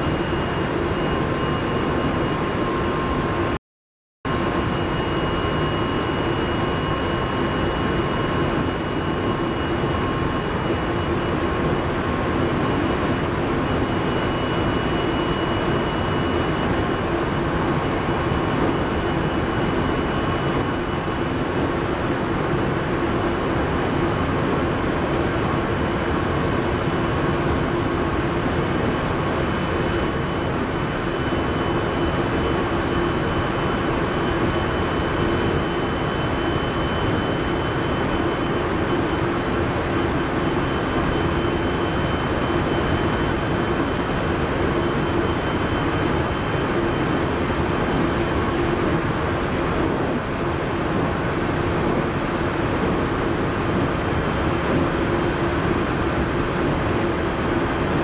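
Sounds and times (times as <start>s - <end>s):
faint high whine: 0.0s - 3.6s, 4.3s - 58.0s.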